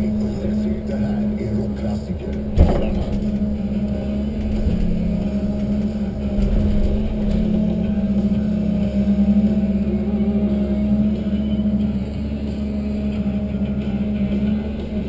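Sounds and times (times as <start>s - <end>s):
diesel engine and hydraulics hum: 0.0s - 15.0s.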